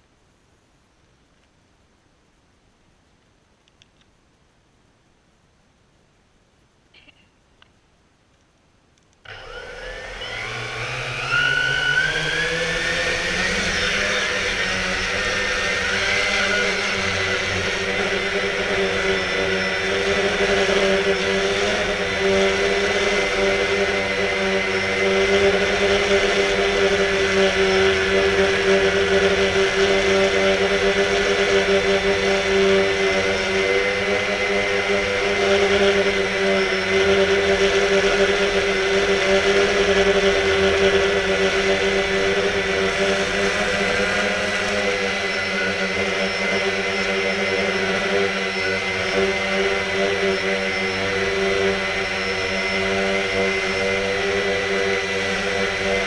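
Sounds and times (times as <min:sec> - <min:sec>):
drone motors whining: 0:09.2 - 0:56.0.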